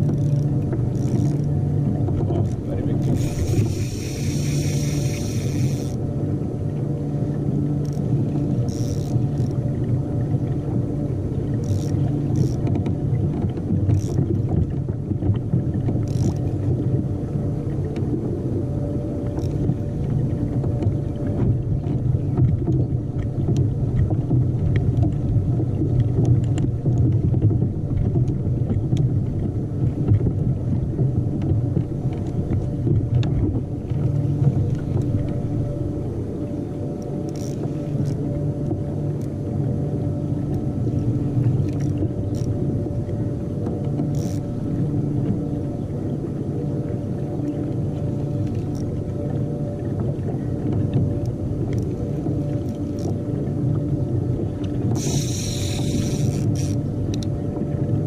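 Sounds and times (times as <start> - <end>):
faint hum: 0.0 - 58.0
water and kayak hull rumble: 0.0 - 58.0.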